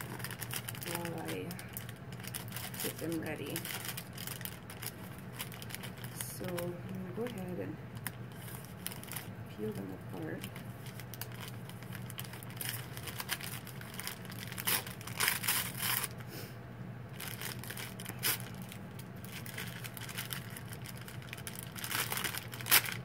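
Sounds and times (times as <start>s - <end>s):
paper packages rustling: 0.0s - 16.2s, 17.2s - 23.0s.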